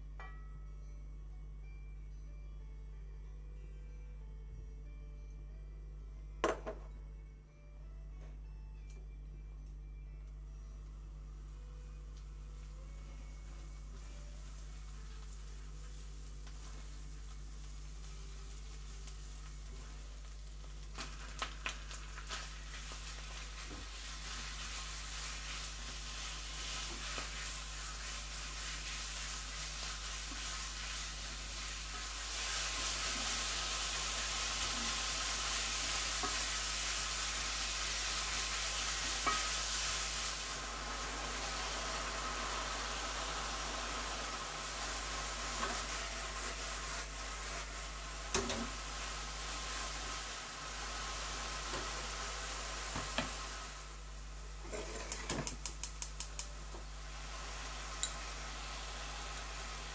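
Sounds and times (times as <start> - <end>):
garlic sizzling in oil: 11.4 - 59.9.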